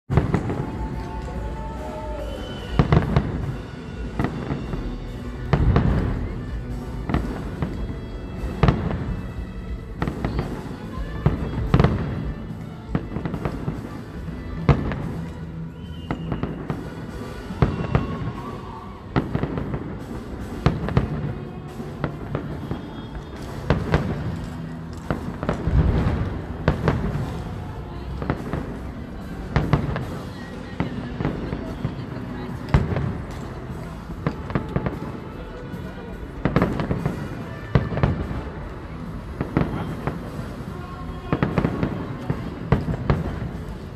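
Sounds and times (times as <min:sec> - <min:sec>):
firework bangs: 0:00.1 - 0:43.9
firework crackling: 0:00.1 - 0:43.9.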